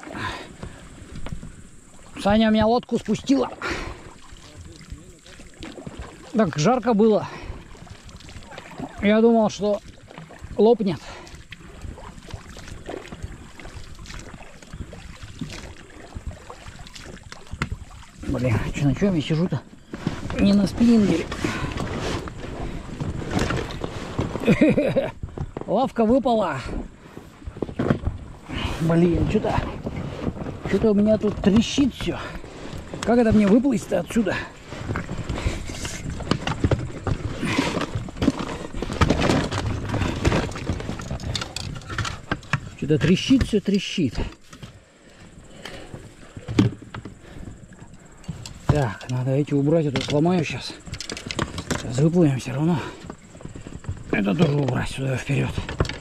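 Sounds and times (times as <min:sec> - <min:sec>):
inflatable boat creaks and rustles: 0:00.0 - 0:56.0.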